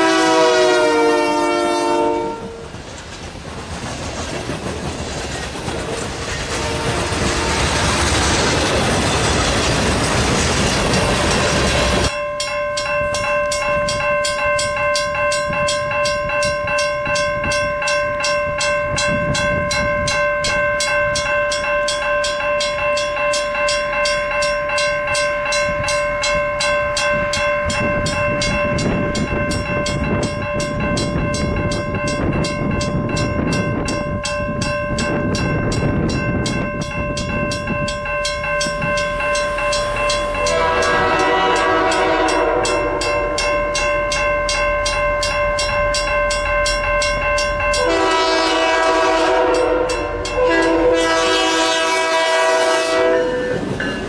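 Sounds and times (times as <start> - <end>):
crossing warning bell ringing: 0.0 - 3.0, 4.4 - 54.0
freight train cars rushing past: 0.0 - 54.0
low rumble of train: 0.0 - 54.0.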